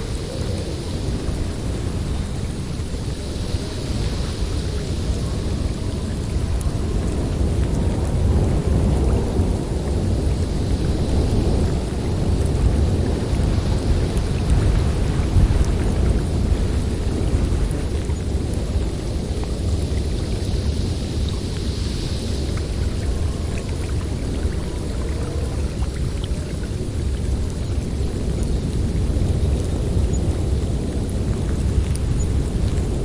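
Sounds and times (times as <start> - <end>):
blizzard wind blowing hard: 0.0 - 33.0.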